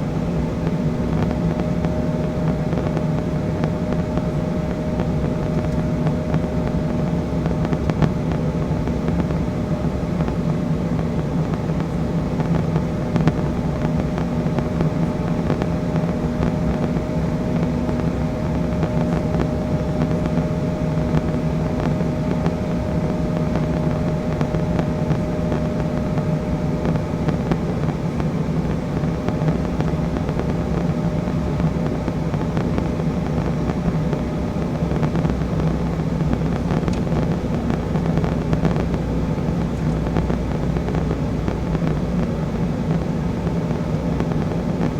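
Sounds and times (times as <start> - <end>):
jet engines droning: 0.0 - 44.9
steady whine: 0.0 - 44.9.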